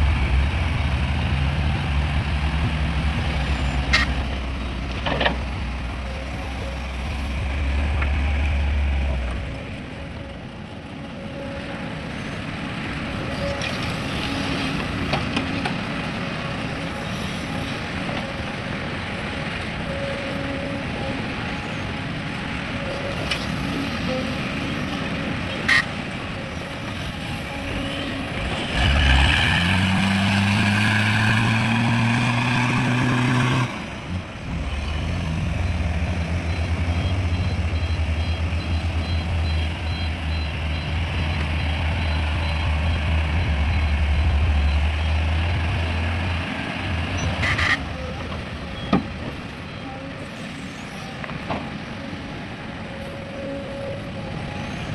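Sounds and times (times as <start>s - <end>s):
heavy diesel engine rumbling: 0.0s - 54.9s.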